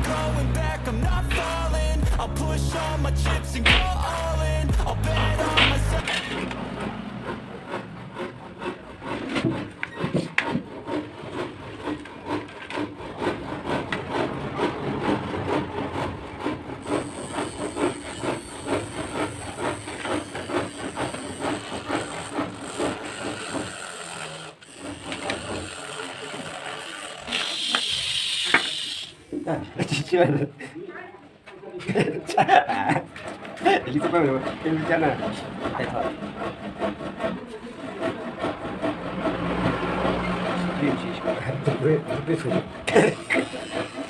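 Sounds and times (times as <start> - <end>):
rotary tool grinding: 3.5 - 30.5, 32.3 - 44.0.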